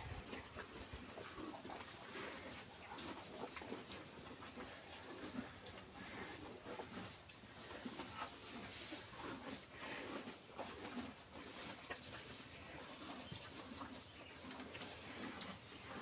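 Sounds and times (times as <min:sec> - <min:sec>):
cattle chewing grass: 0:00.0 - 0:16.0.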